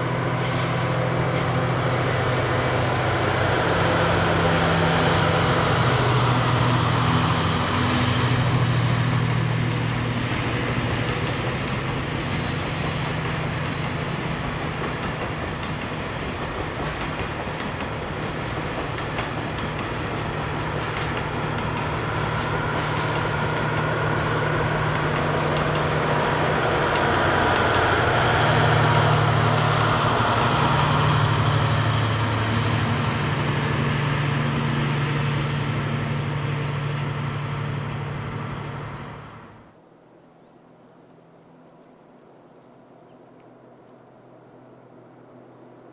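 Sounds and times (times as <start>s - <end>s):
rumble of train wagons: 0.0s - 39.8s
diesel locomotive engine drone: 0.0s - 40.2s, 40.8s - 45.9s.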